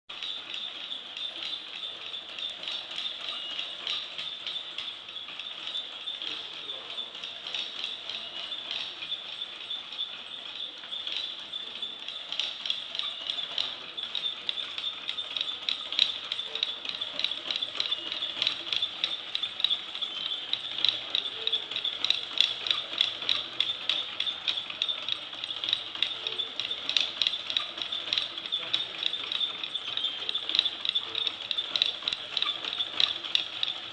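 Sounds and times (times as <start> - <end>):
wooden gears clicking and rattling: 0.1 - 33.9.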